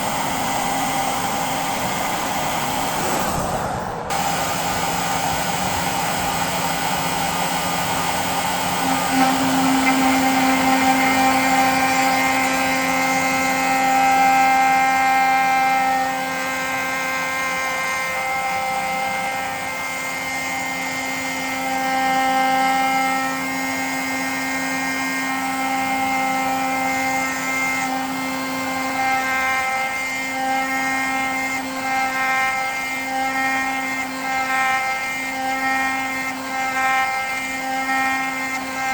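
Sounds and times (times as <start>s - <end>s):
router spindle high whine: 0.0s - 38.9s.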